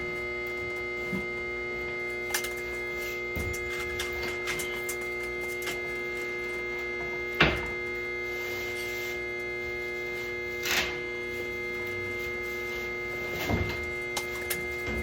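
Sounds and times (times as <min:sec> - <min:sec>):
steady multi-tone hum: 0:00.0 - 0:15.0.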